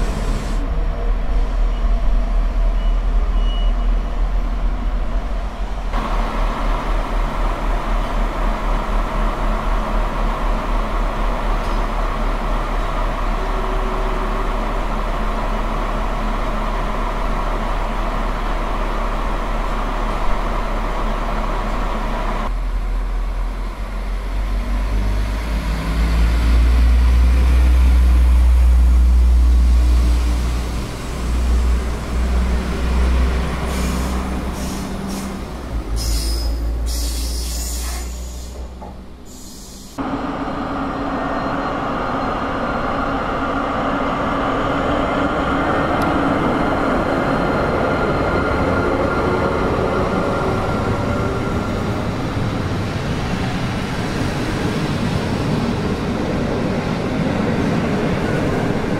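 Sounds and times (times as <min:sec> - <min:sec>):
train wheels on rail: 0:00.0 - 0:22.6, 0:23.6 - 0:58.9
diesel engine rumbling: 0:00.0 - 0:58.9.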